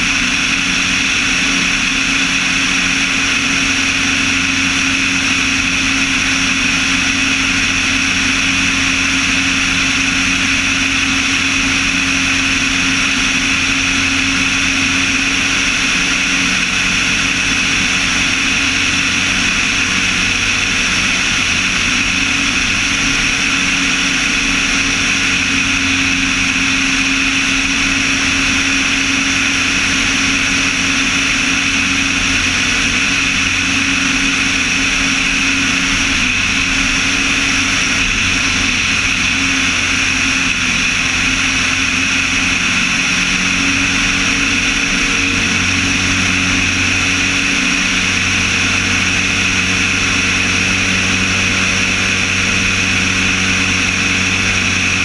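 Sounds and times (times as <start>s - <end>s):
aircraft engine and propeller: 0.0s - 55.0s
rushing airflow: 0.0s - 55.0s.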